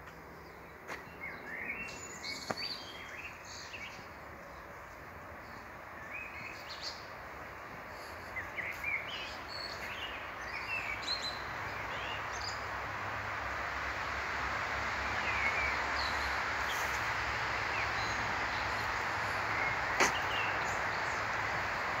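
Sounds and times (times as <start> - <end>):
small birds chirping: 0.0 - 12.8, 14.8 - 22.0.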